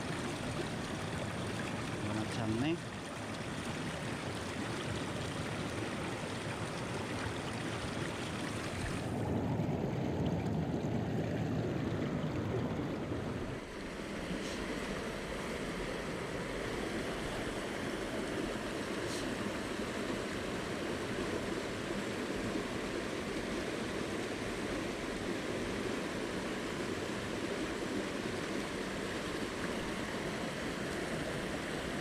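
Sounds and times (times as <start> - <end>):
stream rushing over rocks: 0.0 - 9.2, 12.0 - 32.0.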